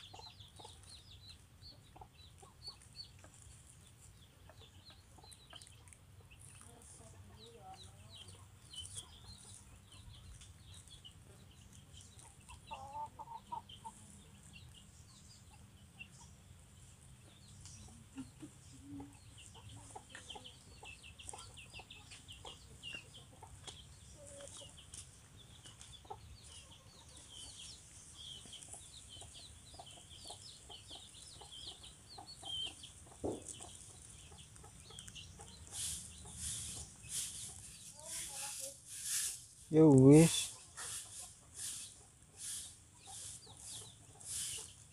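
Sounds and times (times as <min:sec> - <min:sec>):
chickens clucking: 0:00.0 - 0:44.9
chicks peeping: 0:00.0 - 0:44.9.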